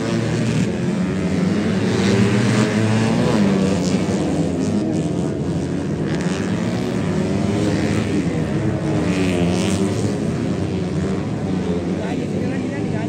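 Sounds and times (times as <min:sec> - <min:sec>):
racing motorcycles revving: 0:00.0 - 0:13.0.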